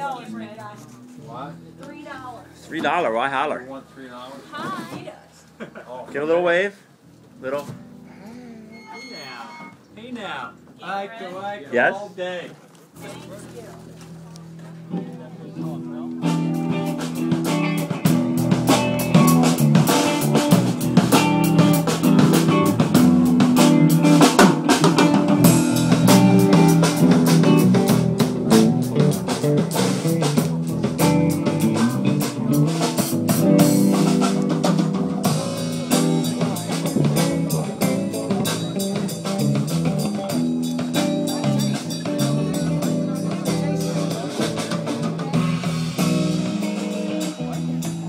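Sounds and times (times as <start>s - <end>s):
live band playing: 0.0s - 5.3s, 7.4s - 12.3s, 12.9s - 48.0s.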